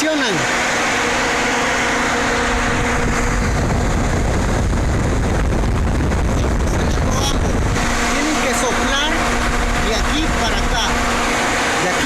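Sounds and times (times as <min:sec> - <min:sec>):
radiator fans rushing air: 0:00.0 - 0:12.0
deep rumble: 0:00.5 - 0:12.0.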